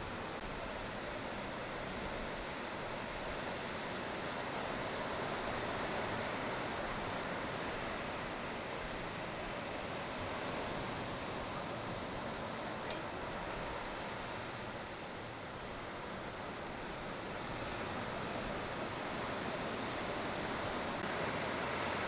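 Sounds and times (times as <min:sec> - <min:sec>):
ocean surf breaking: 0:00.0 - 0:22.0.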